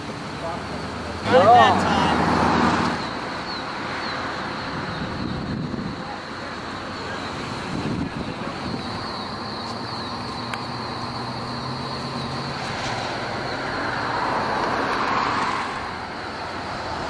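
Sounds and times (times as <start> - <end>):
road traffic noise: 0.0 - 17.0
vehicle passing: 0.0 - 17.0.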